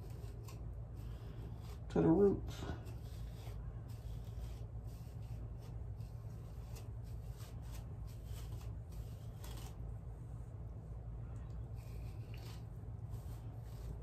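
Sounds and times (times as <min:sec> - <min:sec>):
plastic comb raking through hair: 0:00.0 - 0:10.0, 0:11.6 - 0:14.0
steady low hum: 0:00.0 - 0:14.0.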